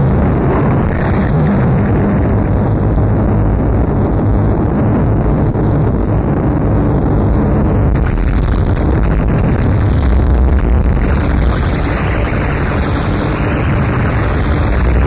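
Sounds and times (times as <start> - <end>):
harsh distorted noise music: 0.0 - 15.0.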